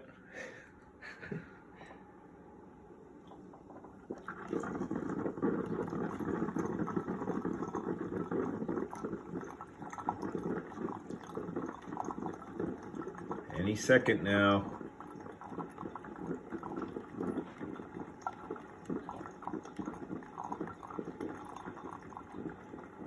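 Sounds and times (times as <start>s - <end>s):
water bubbling and gurgling: 3.4s - 23.0s.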